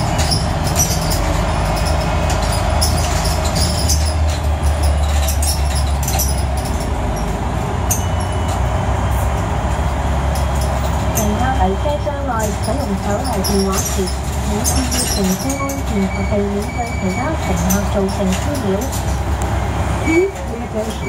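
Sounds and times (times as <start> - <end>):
bus body rattling: 0.0 - 21.0
bus engine droning: 0.0 - 21.0.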